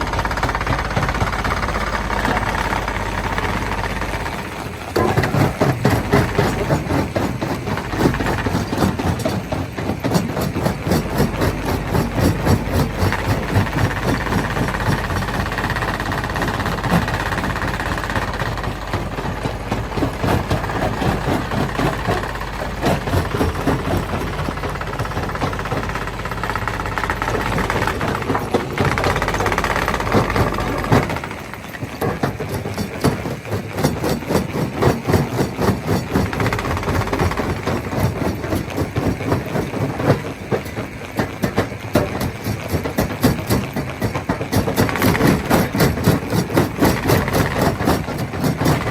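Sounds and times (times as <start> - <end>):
fast rattle of knocks: 0.0 - 48.9
stone crusher machine running: 0.0 - 48.9.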